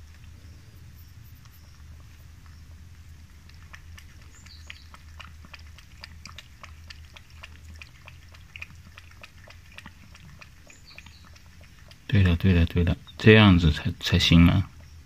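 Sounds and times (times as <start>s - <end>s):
cat lapping liquid: 0.0s - 15.0s
steady low hum: 0.0s - 15.0s.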